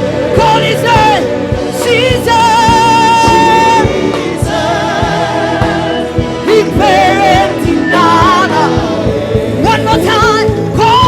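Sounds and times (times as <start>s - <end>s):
band with drum beat: 0.0s - 11.0s.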